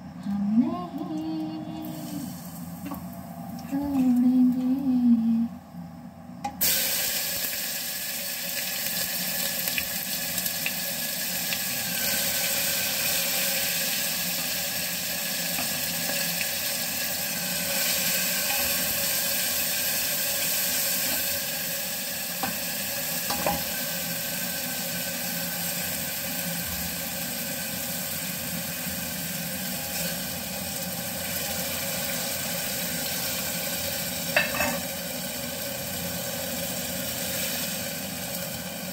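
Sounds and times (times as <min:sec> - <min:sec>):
spices sizzling in hot oil: 0:01.9 - 0:03.1, 0:06.6 - 0:38.9.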